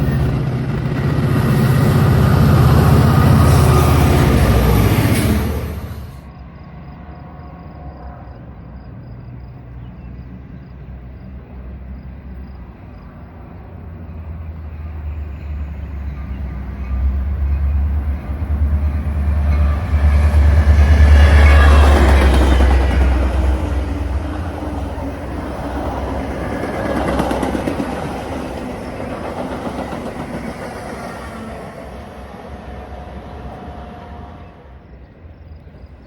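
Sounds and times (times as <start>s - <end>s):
rail and wheel noise: 0.0s - 36.0s
train rumbling: 0.0s - 36.0s.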